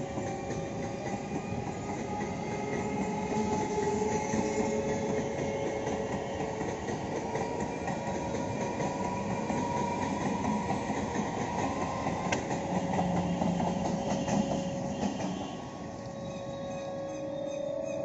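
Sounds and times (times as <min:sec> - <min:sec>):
train wheels clattering over rail joints: 0:00.0 - 0:15.5
electric train passing: 0:00.0 - 0:18.0.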